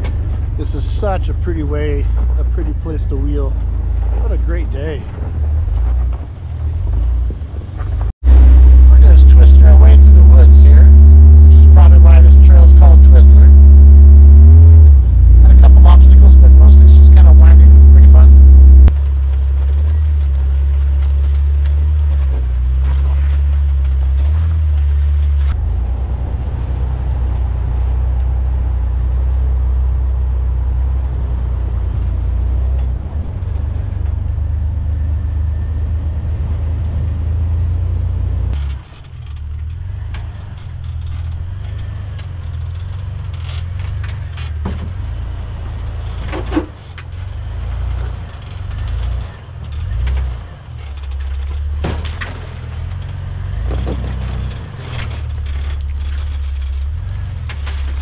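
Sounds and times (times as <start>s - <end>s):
off-road engine drone: 0.0s - 58.0s.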